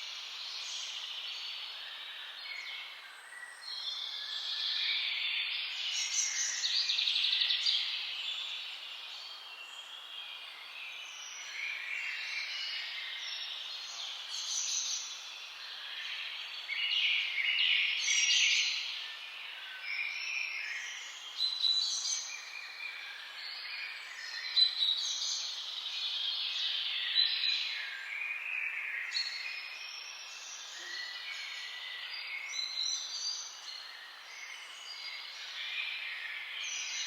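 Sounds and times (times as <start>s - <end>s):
songbirds chirping and trilling: 0.0s - 37.0s.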